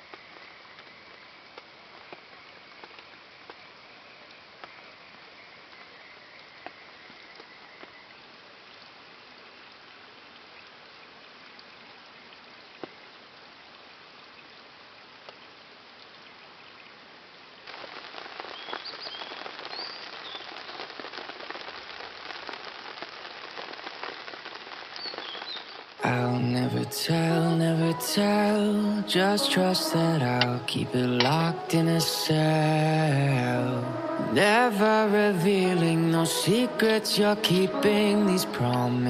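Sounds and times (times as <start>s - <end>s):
rain falling steadily: 0.0s - 39.0s.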